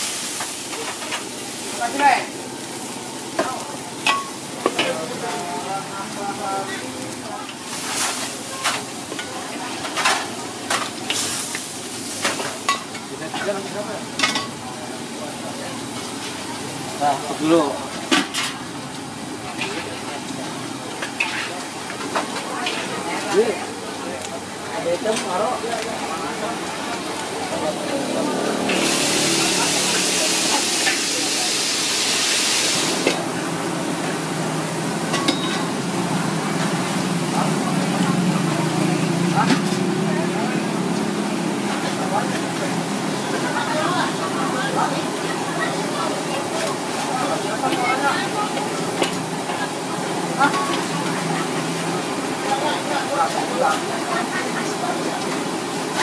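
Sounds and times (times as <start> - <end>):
crab sizzling in a wok: 0.0 - 56.0
gas burner flame: 0.0 - 56.0.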